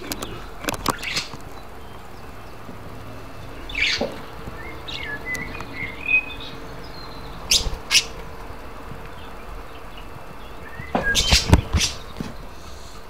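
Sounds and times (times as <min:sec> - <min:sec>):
parakeet chirping: 0:00.0 - 0:12.6.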